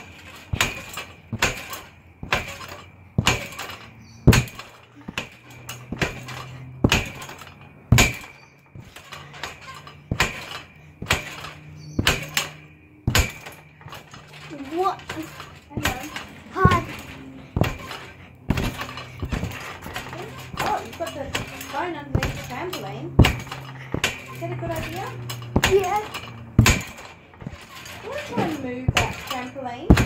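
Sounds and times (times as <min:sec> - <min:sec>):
trampoline knocking: 0:00.0 - 0:30.0.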